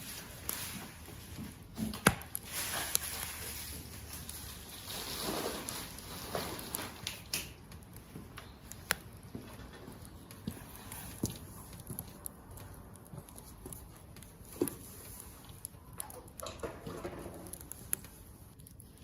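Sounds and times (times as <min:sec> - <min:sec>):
bonfire crackling: 0:00.0 - 0:19.0
fire popping: 0:00.0 - 0:19.0.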